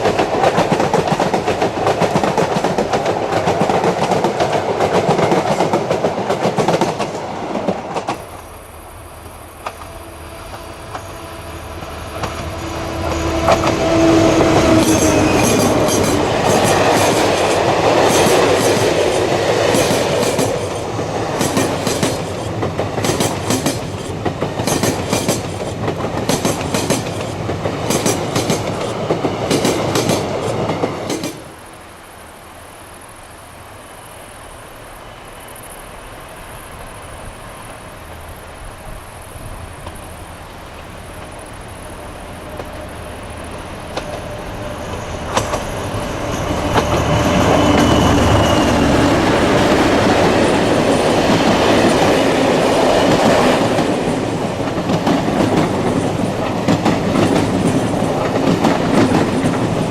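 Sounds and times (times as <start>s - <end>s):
train wheels clicking over rail joints: 0.0s - 11.1s, 12.1s - 31.6s, 39.8s - 59.9s
train running on track: 0.0s - 59.9s.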